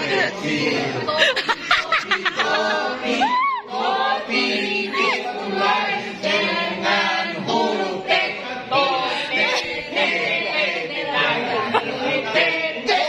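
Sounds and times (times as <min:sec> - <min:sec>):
group of adults singing: 0:00.0 - 0:13.0.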